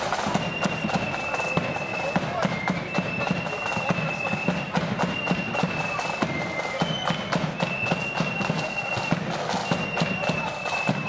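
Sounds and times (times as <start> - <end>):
flutes playing in unison: 0.0 - 11.0
side drums beating: 0.0 - 11.0.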